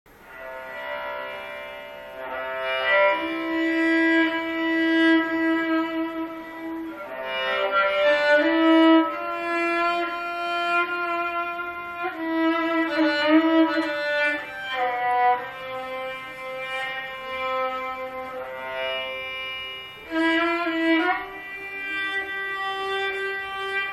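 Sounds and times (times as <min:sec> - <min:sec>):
bowed lyra long held notes: 0:00.3 - 0:23.9.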